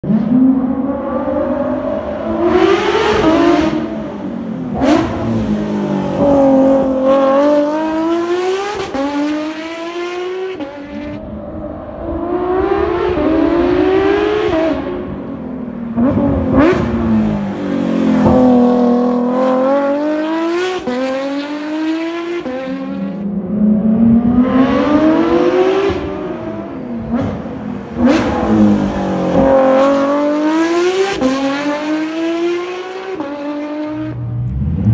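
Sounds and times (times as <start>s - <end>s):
car engine accelerating hard: 0.0s - 34.9s.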